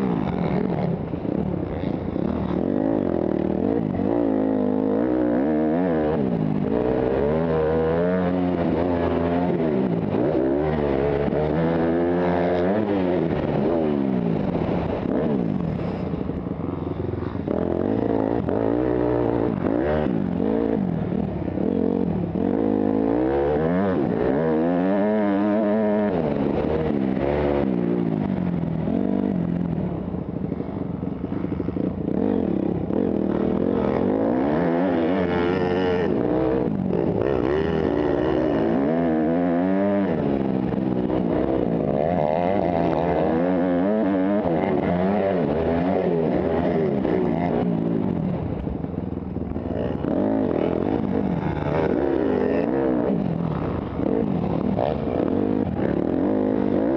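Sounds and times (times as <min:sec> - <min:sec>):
motocross bike engine revving: 0:00.0 - 0:30.0, 0:30.8 - 0:56.9.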